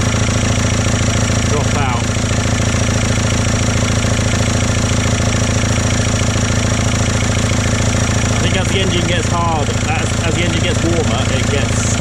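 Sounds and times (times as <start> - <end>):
diesel engine idling with clatter: 0.0 - 12.0.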